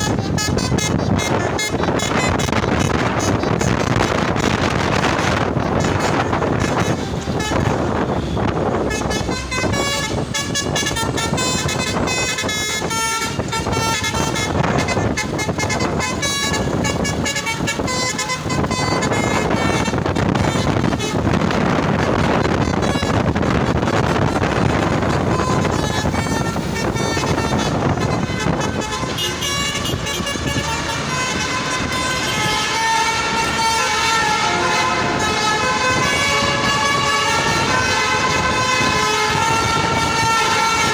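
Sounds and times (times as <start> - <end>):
engine and road noise: 0.0 - 40.9
multi-tone musical truck horn: 0.0 - 40.9.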